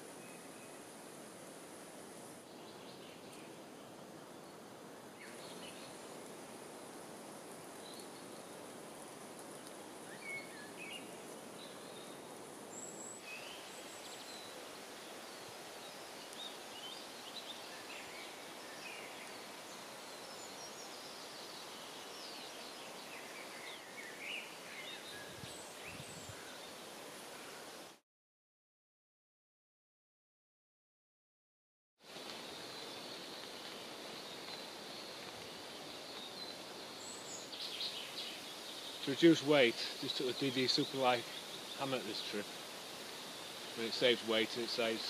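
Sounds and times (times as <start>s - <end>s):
steady low hiss: 0.0s - 28.0s, 32.0s - 45.0s.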